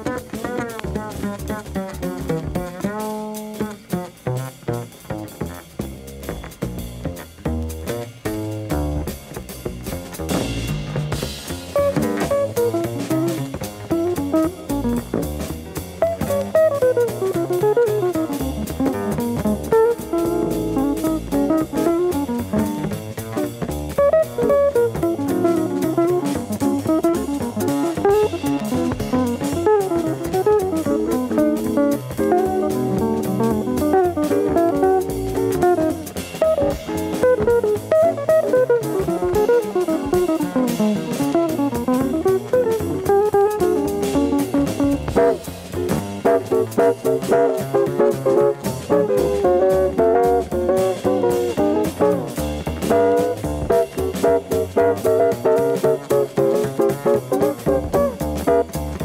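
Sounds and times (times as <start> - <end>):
jazz guitar bass and drums: 0.0 - 59.0.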